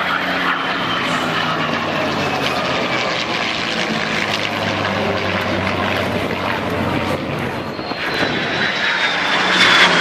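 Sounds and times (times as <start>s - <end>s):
aircraft engine roar: 0.0s - 10.0s
jet whine falling in pitch: 0.0s - 10.0s.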